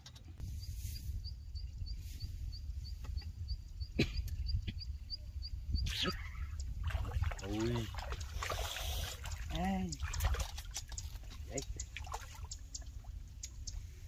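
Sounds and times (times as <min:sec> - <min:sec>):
bird chirping: 0:00.2 - 0:14.0.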